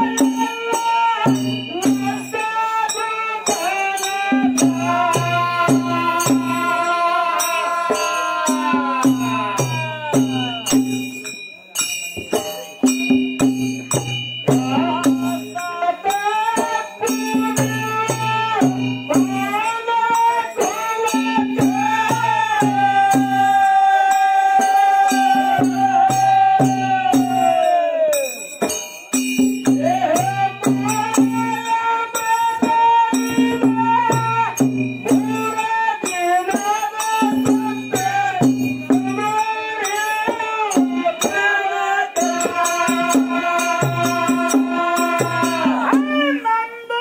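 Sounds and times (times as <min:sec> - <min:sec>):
man singing: 0:00.0 - 0:11.2, 0:13.9 - 0:47.0
drum rhythm: 0:00.0 - 0:46.4
jingling hand cymbals: 0:00.0 - 0:47.0.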